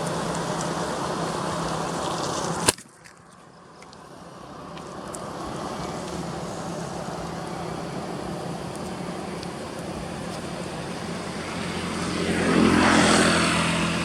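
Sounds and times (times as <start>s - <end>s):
engine and road traffic noise: 0.0s - 14.0s.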